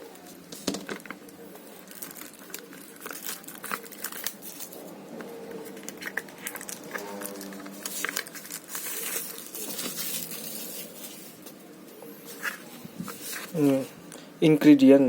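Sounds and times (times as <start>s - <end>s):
plastic wrap tearing and crinkling: 0.1s - 13.8s.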